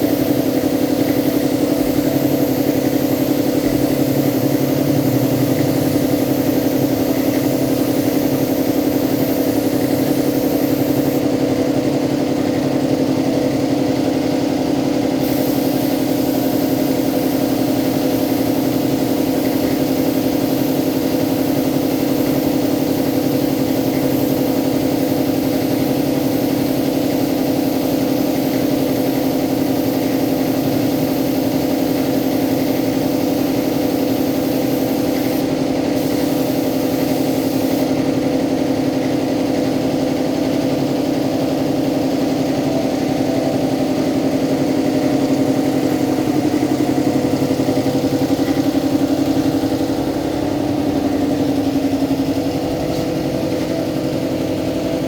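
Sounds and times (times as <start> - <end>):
air compressor humming: 0.0 - 55.0.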